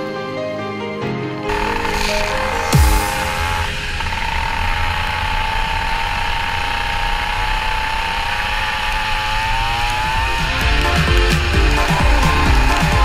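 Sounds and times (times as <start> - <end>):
kart engine revving: 1.5 - 13.0.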